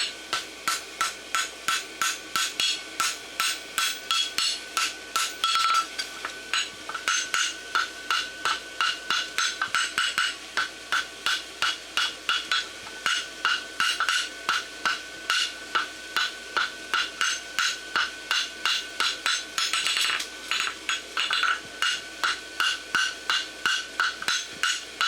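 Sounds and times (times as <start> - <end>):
hammer striking steel on anvil: 0.0 - 24.9.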